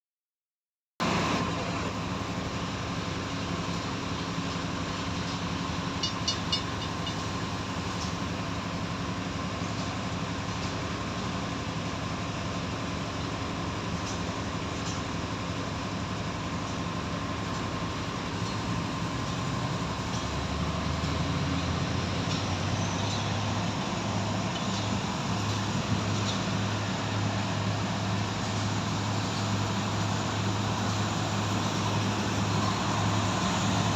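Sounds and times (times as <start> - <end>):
heavy machinery engine running: 1.0 - 33.9.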